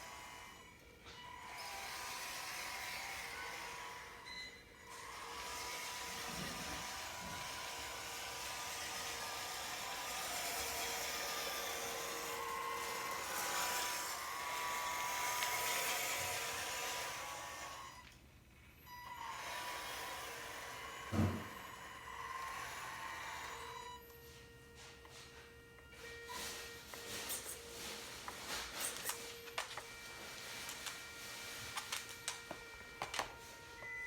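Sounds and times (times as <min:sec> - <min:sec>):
toy truck motor whining: 0:00.0 - 0:18.2, 0:18.8 - 0:24.3, 0:26.0 - 0:34.0.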